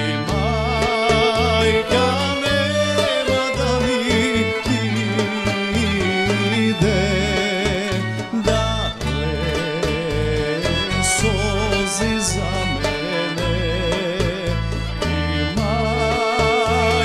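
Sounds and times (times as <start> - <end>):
band with guitars and drums: 0.0 - 17.0
man singing: 0.0 - 17.0.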